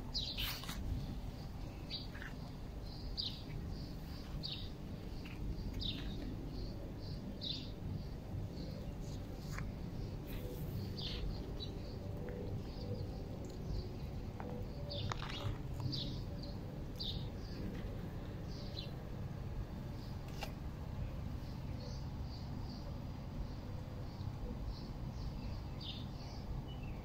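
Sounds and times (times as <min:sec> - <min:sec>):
low background rumble: 0:00.0 - 0:27.0
small birds chirping: 0:00.1 - 0:27.0.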